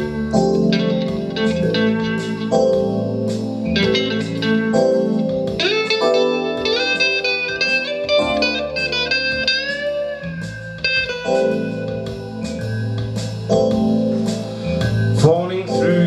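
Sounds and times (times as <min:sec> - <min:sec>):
jazz blues band playing: 0:00.0 - 0:16.0
lead guitar with bent notes: 0:00.0 - 0:16.0.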